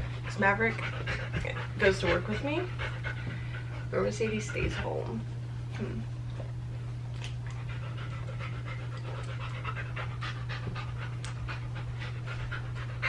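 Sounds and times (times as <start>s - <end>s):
large dog panting: 0.0s - 5.2s, 7.5s - 13.0s
steady low hum: 0.0s - 13.0s.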